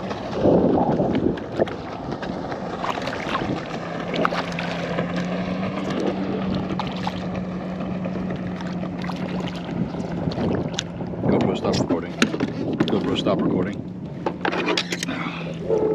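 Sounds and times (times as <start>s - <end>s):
wind buffeting microphone: 0.0s - 14.5s.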